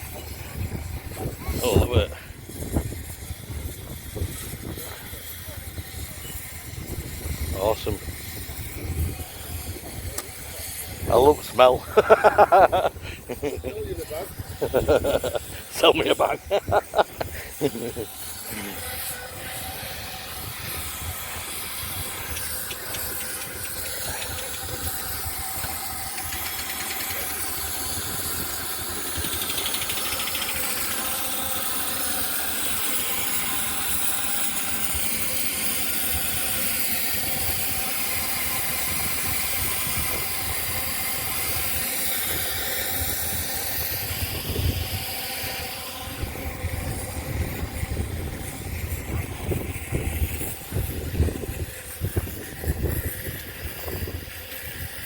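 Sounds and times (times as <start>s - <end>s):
steam hissing: 0.0s - 55.0s.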